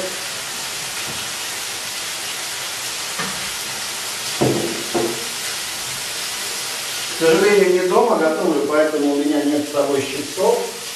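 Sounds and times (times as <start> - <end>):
bacon sizzling in a frying pan: 0.0 - 10.9.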